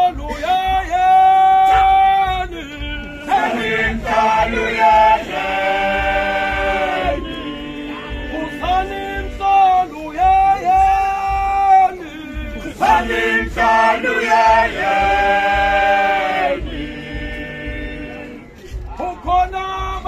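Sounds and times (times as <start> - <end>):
male choir singing a cappella: 0.0 - 20.0.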